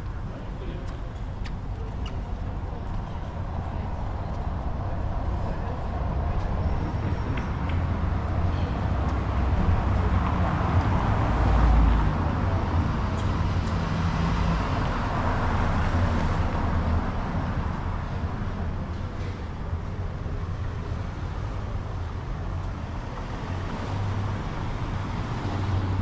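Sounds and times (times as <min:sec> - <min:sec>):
road noise: 0:00.0 - 0:26.0
vehicle engine rumble: 0:00.0 - 0:26.0.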